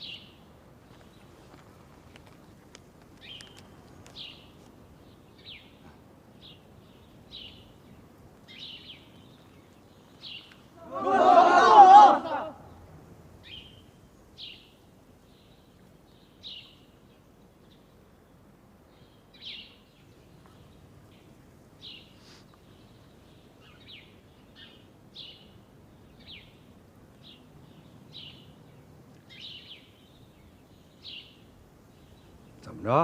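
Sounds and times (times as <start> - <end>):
small birds chirping: 0.0 - 10.8, 12.6 - 33.0
low steady hiss: 0.0 - 33.0.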